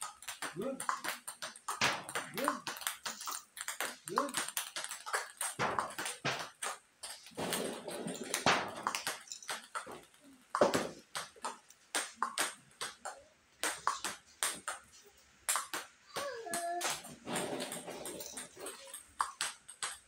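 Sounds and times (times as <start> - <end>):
table tennis balls clicking: 0.0 - 20.0.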